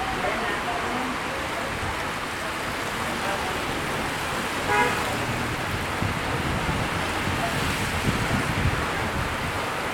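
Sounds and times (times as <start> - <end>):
heavy rain pouring on street: 0.0 - 9.9.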